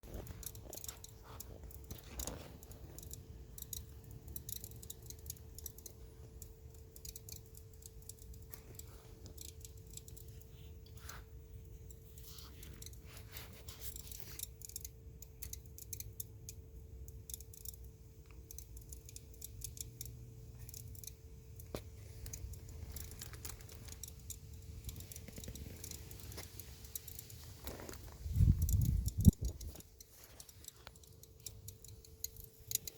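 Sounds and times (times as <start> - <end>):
cooling engine ticking: 0.0 - 32.9
faint steady hum: 0.0 - 32.9.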